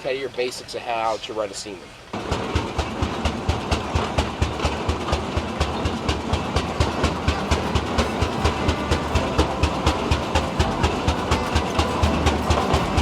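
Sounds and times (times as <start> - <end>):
steam traction engine beating: 2.2 - 13.0.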